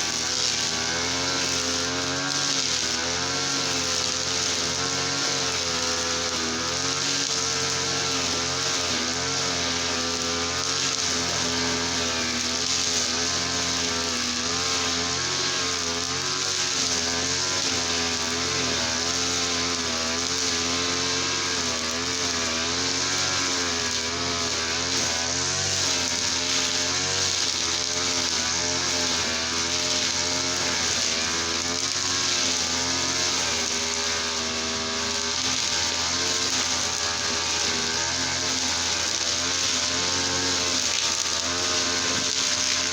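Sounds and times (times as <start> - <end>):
brush cutter engine running: 0.0 - 42.9.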